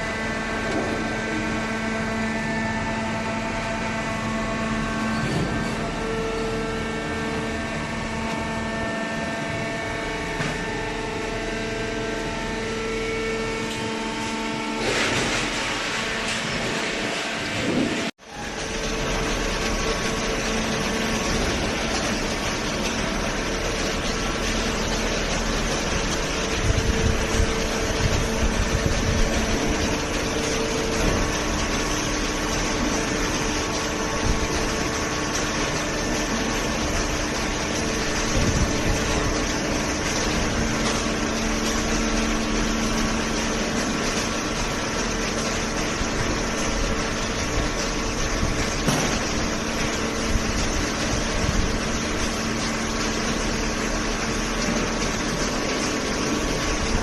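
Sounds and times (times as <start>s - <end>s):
baler mechanical hum: 0.0s - 57.0s.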